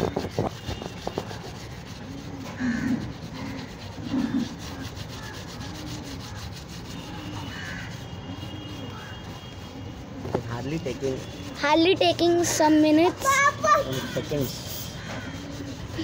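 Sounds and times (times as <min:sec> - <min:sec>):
steel wool scrubbing metal rim: 0:00.0 - 0:16.0.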